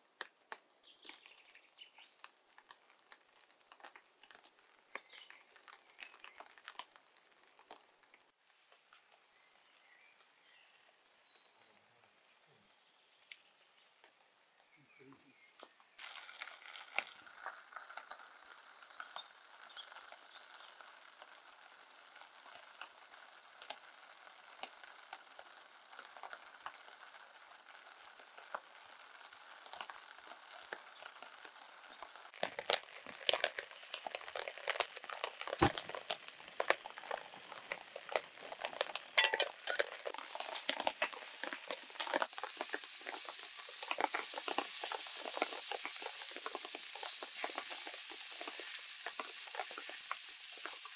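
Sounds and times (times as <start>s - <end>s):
oil popping and spitting: 0.0s - 8.4s, 15.6s - 50.9s
food sizzling in a frying pan: 0.9s - 8.3s, 16.0s - 50.9s.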